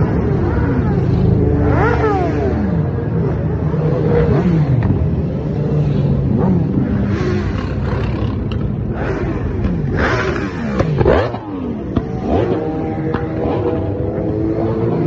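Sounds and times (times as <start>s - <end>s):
motorcycle and car engines passing: 0.0s - 15.0s.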